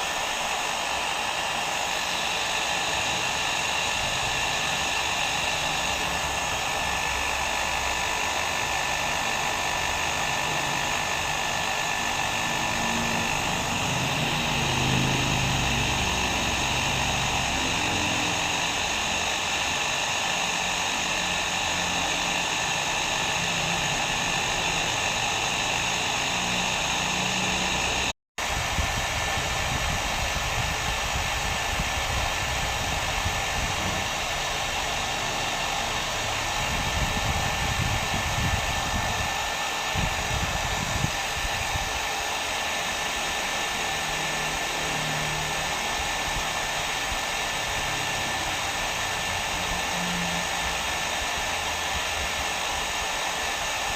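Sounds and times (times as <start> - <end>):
hair dryer blowing: 0.0 - 53.9.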